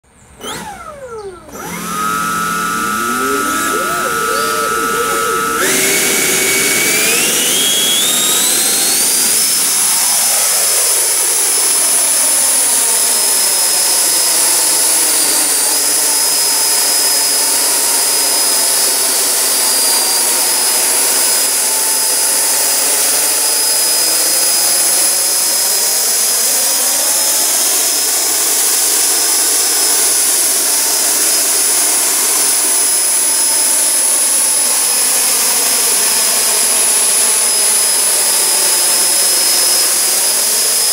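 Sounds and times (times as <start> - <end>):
small jet turbine whine: 0.1 - 40.9.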